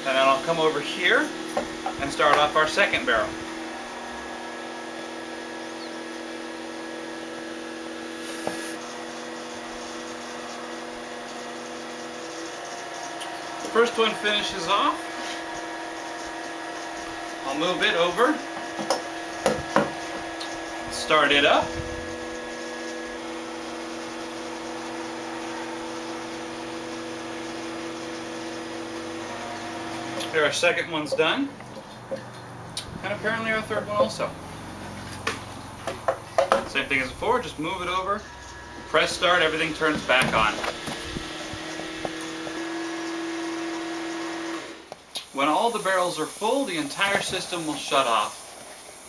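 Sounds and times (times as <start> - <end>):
electric pump humming: 0.0 - 49.0.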